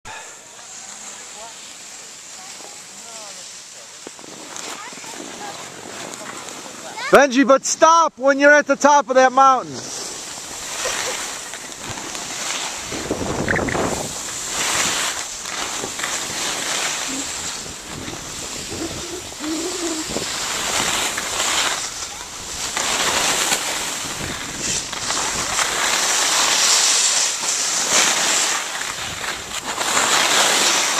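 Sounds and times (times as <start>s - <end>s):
skis scraping over snow: 0.1s - 30.9s.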